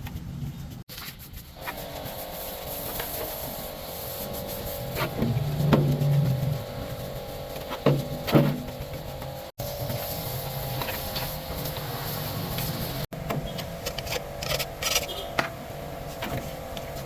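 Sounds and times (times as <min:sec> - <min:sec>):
mechanical hum: 0:00.1 - 0:17.0.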